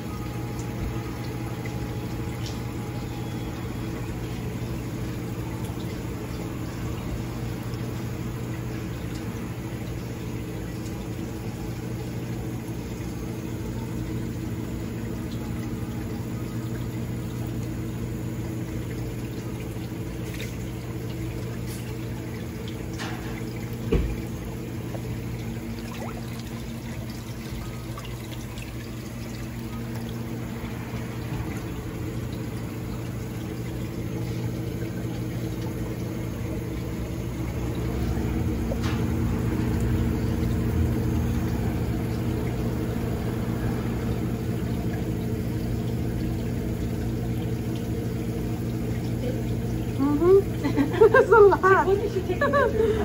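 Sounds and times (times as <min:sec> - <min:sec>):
pump motor humming: 0:00.0 - 0:53.0
water running and pouring: 0:00.0 - 0:53.0.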